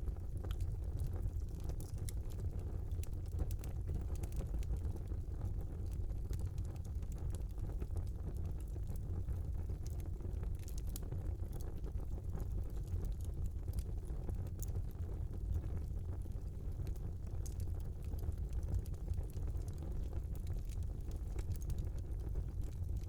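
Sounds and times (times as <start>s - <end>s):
fire crackles and pops: 0.0s - 23.0s
low rumble of flames: 0.0s - 23.0s.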